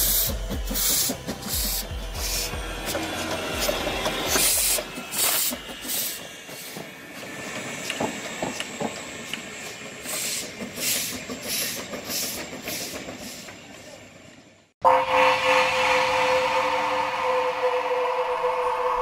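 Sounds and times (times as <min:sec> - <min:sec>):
steam locomotive chuffing: 0:00.0 - 0:14.0, 0:14.8 - 0:19.0.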